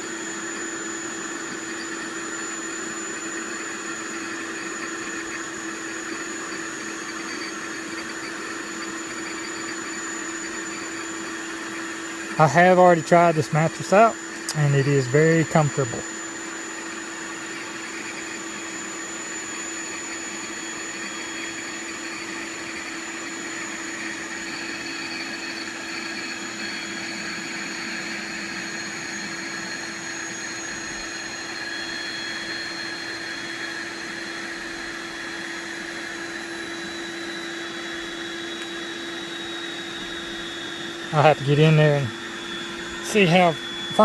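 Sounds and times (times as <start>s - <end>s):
electric air pump running: 0.0s - 44.0s.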